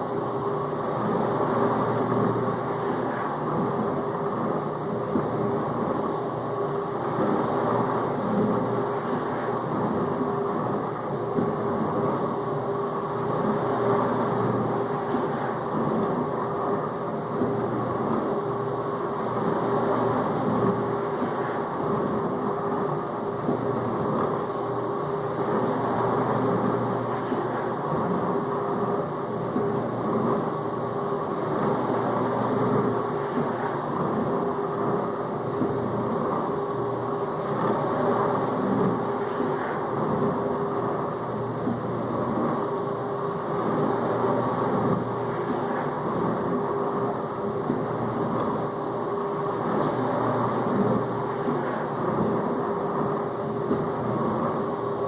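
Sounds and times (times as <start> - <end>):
dishwasher pump motor humming: 0.0 - 55.0.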